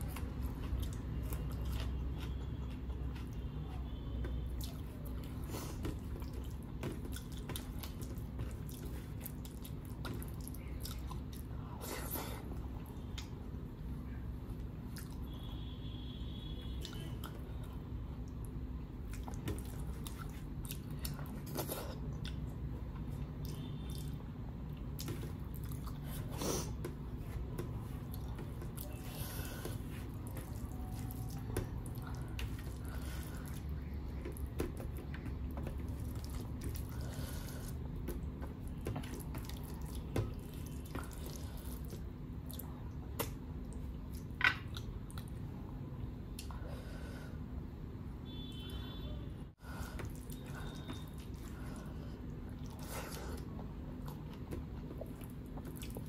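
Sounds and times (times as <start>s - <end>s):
chewing: 0.0s - 12.2s, 14.9s - 15.3s, 16.8s - 26.9s, 27.6s - 45.4s, 49.8s - 56.0s.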